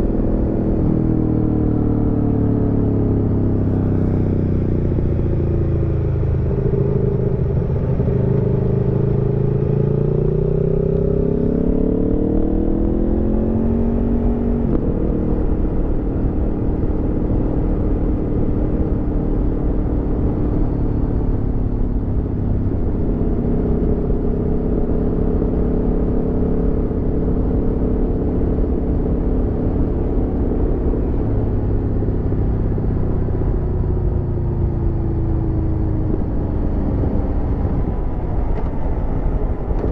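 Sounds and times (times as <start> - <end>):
motorcycle engine accelerating: 0.0 - 39.9
road and wind noise: 0.0 - 39.9.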